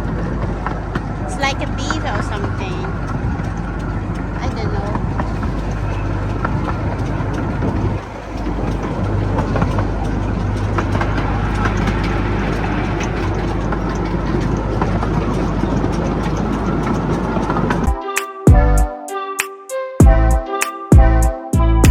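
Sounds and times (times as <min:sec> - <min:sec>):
vehicle engine hum: 0:00.0 - 0:17.9
rumble of motion noise: 0:00.0 - 0:18.8.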